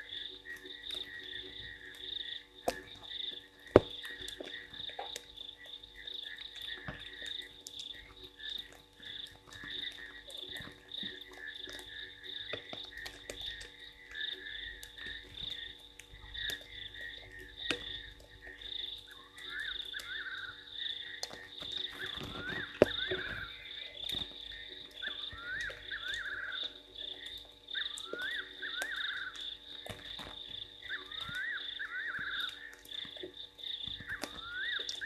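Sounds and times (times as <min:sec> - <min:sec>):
frogs calling: 0:00.0 - 0:35.0.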